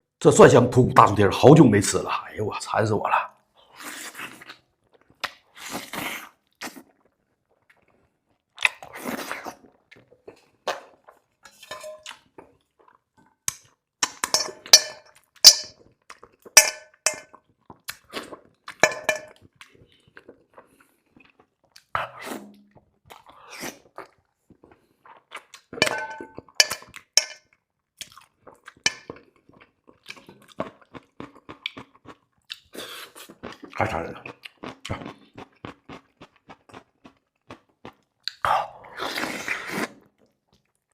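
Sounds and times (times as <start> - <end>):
close chewing and crunching: 3.6 - 11.4, 12.0 - 13.9, 15.1 - 40.9.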